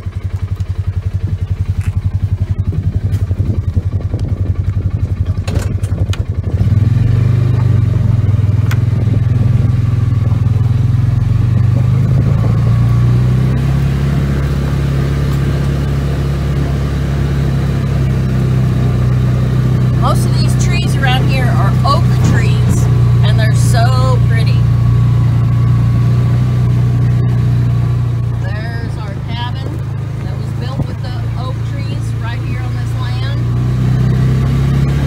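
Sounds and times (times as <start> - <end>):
utility vehicle engine running: 0.0 - 35.0.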